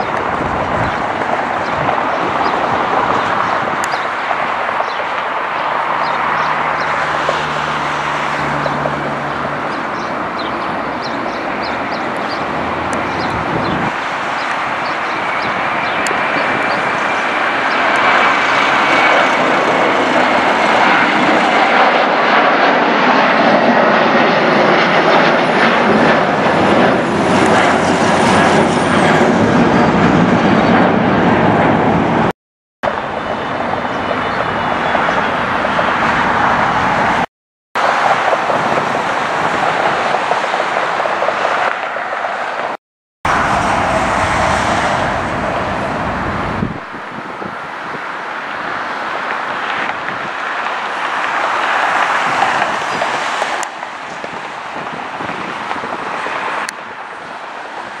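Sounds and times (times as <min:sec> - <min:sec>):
high engine whine: 0:00.0 - 0:42.0, 0:43.3 - 0:52.6
jet engines roaring: 0:00.0 - 0:58.0.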